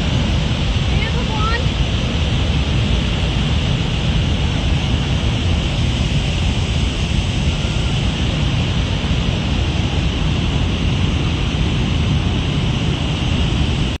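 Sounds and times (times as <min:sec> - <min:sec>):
rushing floodwater roar: 0:00.0 - 0:14.0.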